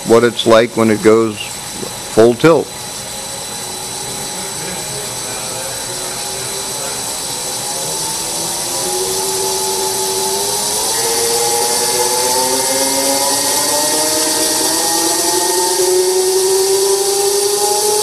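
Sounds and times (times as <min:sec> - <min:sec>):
motor whine rising in pitch: 0:00.0 - 0:18.0.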